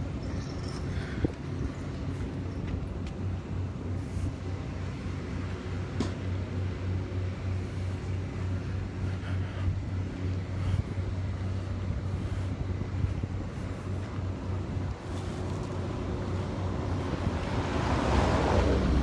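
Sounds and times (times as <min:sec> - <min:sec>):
road noise: 0:00.0 - 0:19.0
truck engine running: 0:00.0 - 0:19.0.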